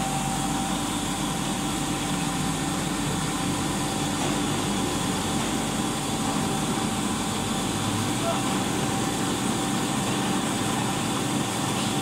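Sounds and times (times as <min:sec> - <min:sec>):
printing machine humming: 0:00.0 - 0:12.0.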